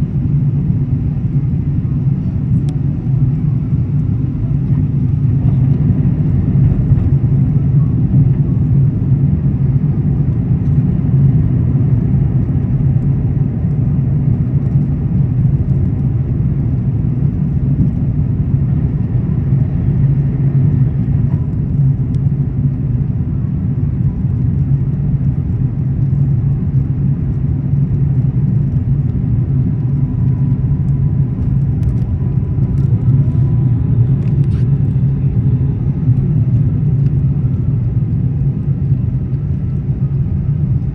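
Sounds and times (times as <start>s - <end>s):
aircraft cabin rumble: 0.0s - 40.9s.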